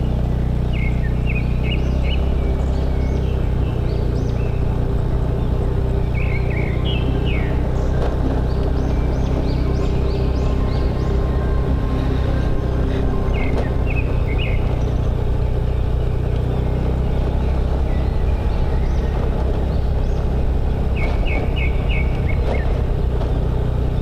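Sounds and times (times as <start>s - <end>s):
bird chirping: 0.0s - 24.0s
motorbike engine running: 0.0s - 24.0s
wind and road noise: 0.0s - 24.0s.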